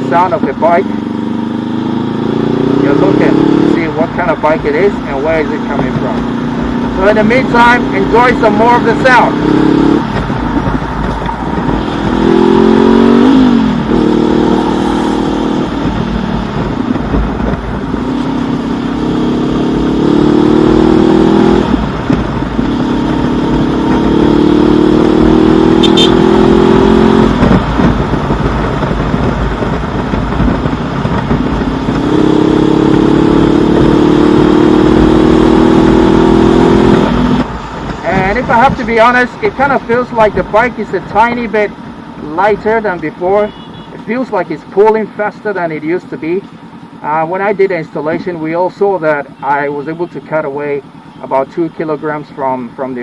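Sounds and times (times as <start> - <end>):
motorcycle engine accelerating: 0.0 - 43.2.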